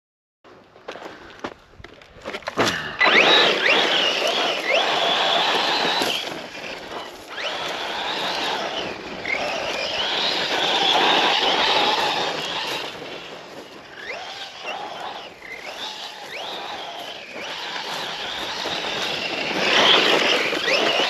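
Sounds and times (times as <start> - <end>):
electric motor whining: 2.6 - 21.0.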